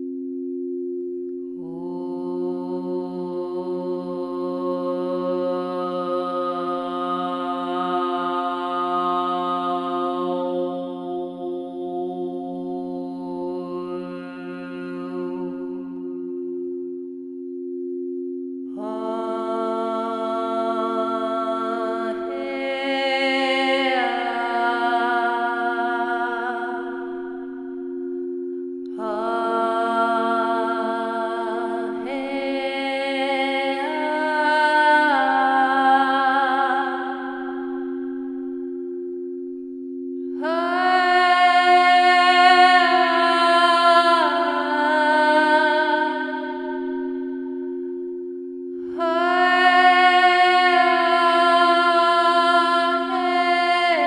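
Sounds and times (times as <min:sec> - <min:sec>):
held sung vocal tone: 0:01.4 - 0:16.8, 0:18.7 - 0:39.4, 0:40.2 - 0:54.0
person singing long notes: 0:01.6 - 0:16.4, 0:18.7 - 0:39.0, 0:40.2 - 0:48.2, 0:48.8 - 0:54.0.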